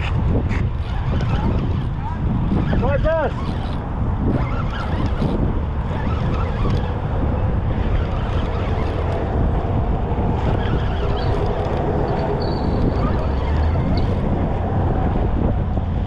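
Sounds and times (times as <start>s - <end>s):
fishing reel being cranked: 0.0s - 15.1s
wind buffeting microphone: 0.0s - 16.0s.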